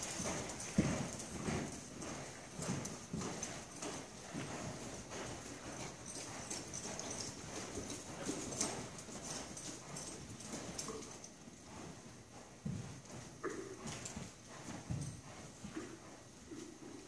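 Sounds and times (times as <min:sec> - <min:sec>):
hoofbeats on sand: 0:00.0 - 0:17.0.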